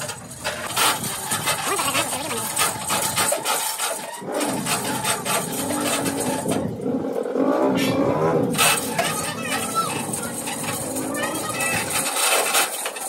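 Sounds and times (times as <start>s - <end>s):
chains rattling: 0.0s - 6.7s, 8.5s - 13.0s.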